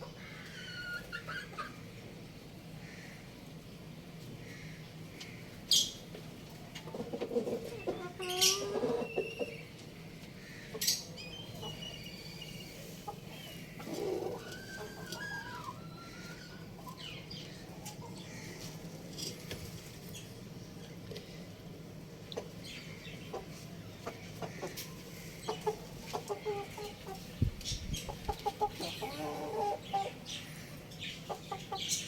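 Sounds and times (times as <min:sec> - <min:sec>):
chicks clucking and chirping: 0:00.0 - 0:02.2, 0:04.2 - 0:32.0.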